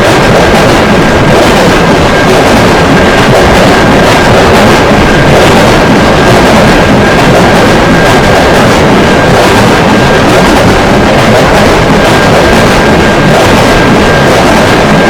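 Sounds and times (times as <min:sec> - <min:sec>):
train rumbling and rattling: 0:00.0 - 0:15.0.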